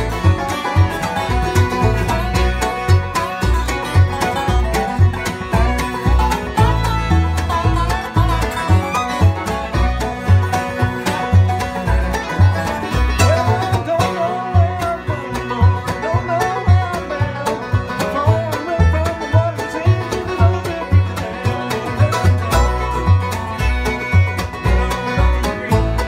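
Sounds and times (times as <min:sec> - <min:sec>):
acoustic bluegrass band playing: 0:00.0 - 0:26.0.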